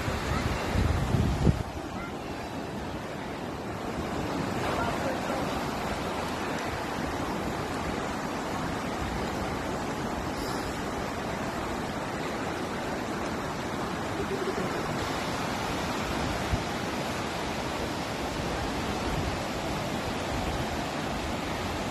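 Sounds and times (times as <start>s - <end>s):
sea surf on beach: 0.0s - 21.9s.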